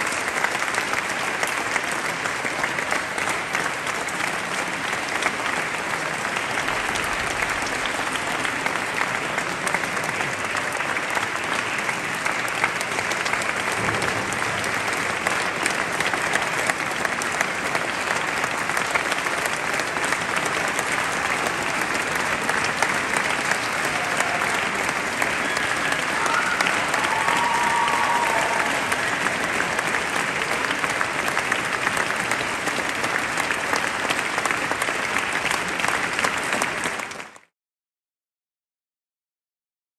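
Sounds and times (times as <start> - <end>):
audience applauding: 0.0 - 37.5.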